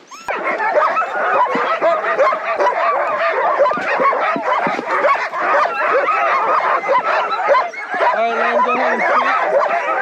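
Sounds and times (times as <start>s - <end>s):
sled dogs barking and howling: 0.0s - 10.0s.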